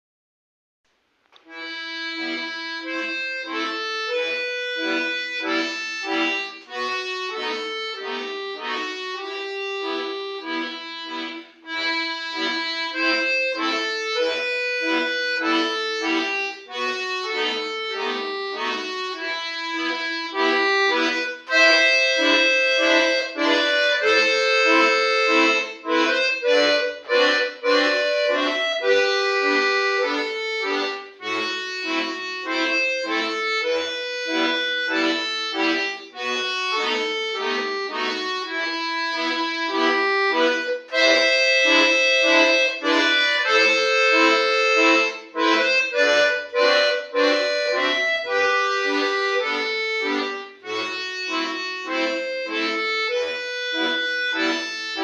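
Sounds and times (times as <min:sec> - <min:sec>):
solo accordion playing: 0:01.4 - 0:55.0.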